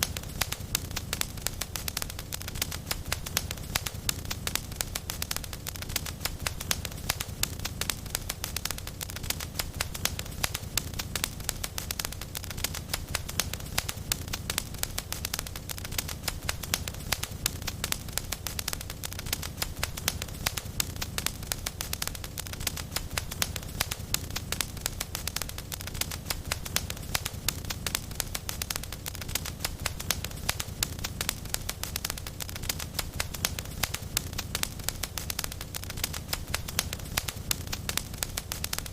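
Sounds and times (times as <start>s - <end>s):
flames rumbling: 0.0s - 38.9s
wood fire crackling: 0.0s - 38.9s.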